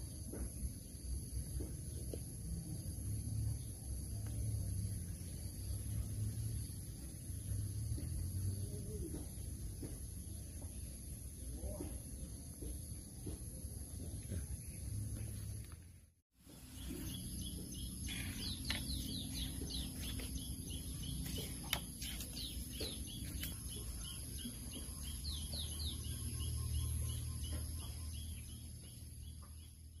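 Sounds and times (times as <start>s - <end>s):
small birds chirping: 3.5s - 30.0s.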